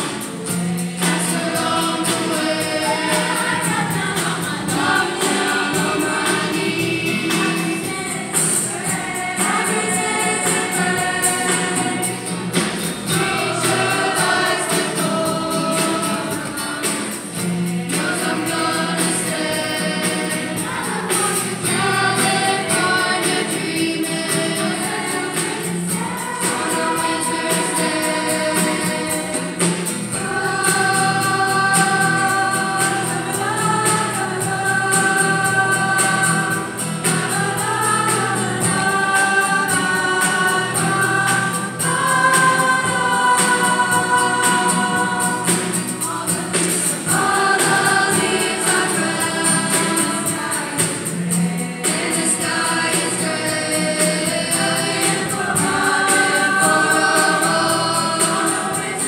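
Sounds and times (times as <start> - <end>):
choir singing in harmony: 0.0 - 59.0
strummed acoustic guitars: 0.0 - 59.0.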